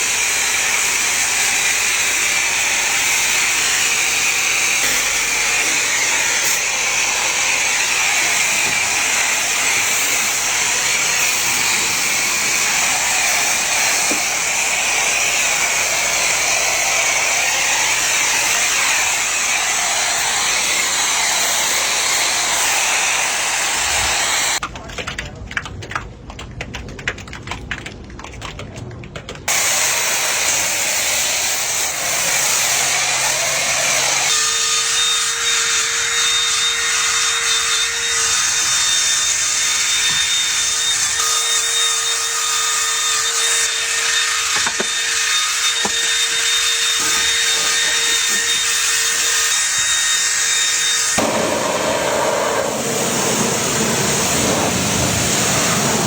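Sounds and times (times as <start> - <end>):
power tool high whine: 0.0 - 24.6, 29.5 - 56.0.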